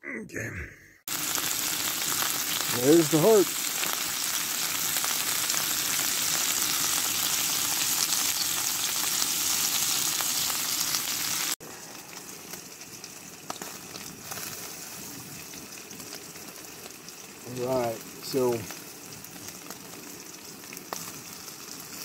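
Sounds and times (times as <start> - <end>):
meat sizzling in a pan: 1.1 - 22.0.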